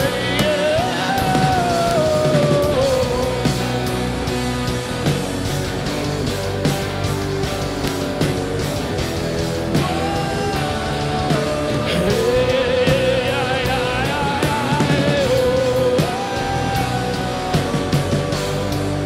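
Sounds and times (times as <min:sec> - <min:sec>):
rock band playing worship music: 0:00.0 - 0:19.0.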